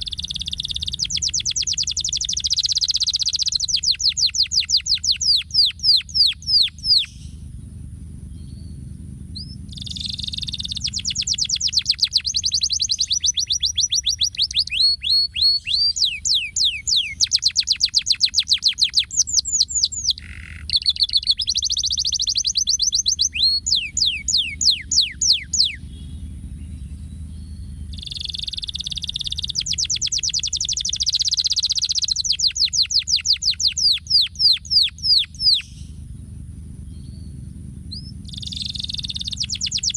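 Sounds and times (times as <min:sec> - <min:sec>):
canary singing trills: 0:00.0 - 0:39.9
low background rumble: 0:00.0 - 0:39.9.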